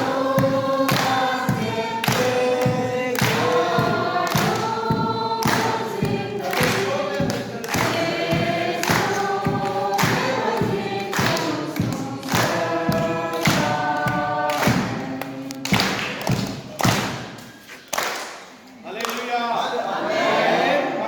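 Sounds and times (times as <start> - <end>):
choir singing over beat: 0.0 - 17.4, 19.9 - 21.0.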